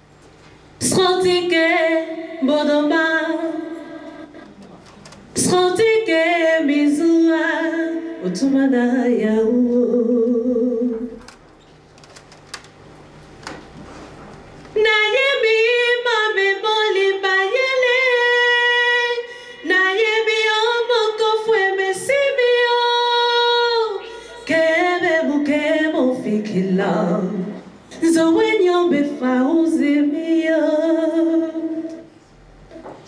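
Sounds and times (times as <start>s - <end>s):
woman singing unaccompanied: 0.8s - 4.3s, 5.4s - 11.2s, 14.8s - 32.1s.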